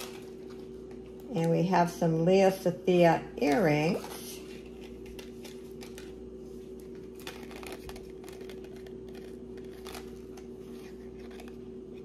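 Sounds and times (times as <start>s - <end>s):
packaging rustling: 0.0s - 1.3s, 3.4s - 12.0s
steady low hum: 0.0s - 12.0s.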